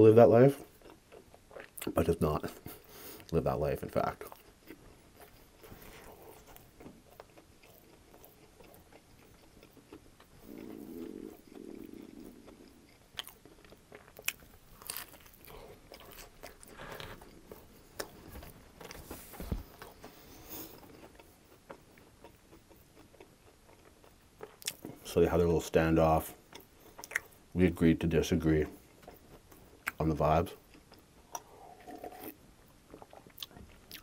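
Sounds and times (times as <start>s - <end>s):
person chewing crunchy food: 0.5s - 3.4s, 4.1s - 25.1s, 26.4s - 27.5s, 28.7s - 34.0s.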